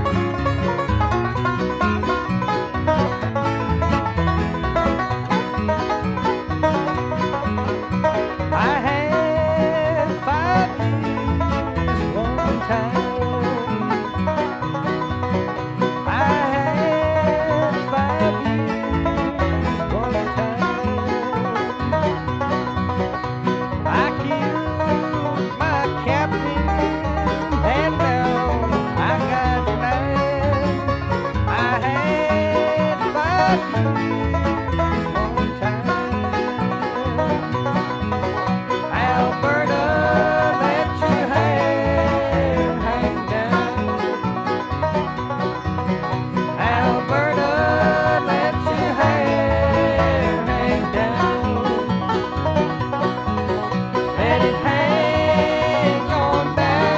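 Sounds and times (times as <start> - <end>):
banjo: 0.0 - 56.9
bluegrass band instrumental: 0.0 - 56.9
guitar: 0.0 - 56.9.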